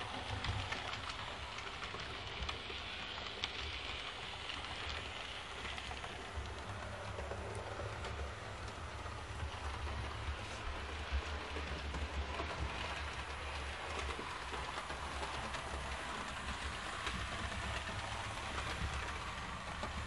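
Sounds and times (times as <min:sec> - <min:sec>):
model train wheels rattling on rails: 0:00.0 - 0:20.0.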